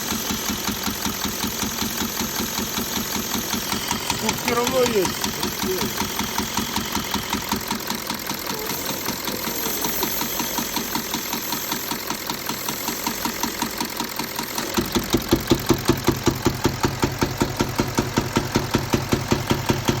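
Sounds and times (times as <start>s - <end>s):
diesel engine idling with knocking: 0.0s - 20.0s.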